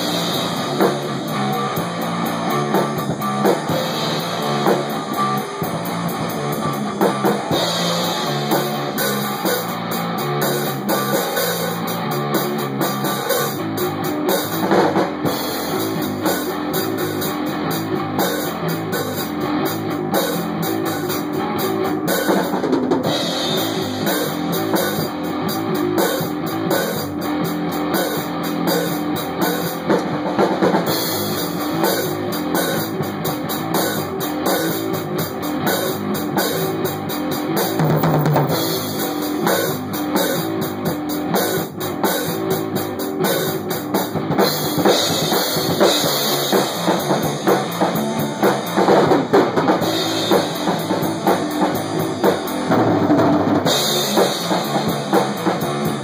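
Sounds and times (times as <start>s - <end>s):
rock music with drums and guitar: 0.0s - 56.0s.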